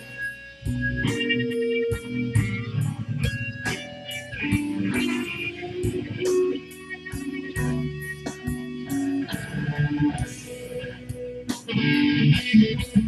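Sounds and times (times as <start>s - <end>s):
electric guitar playing blues: 0.0s - 13.0s.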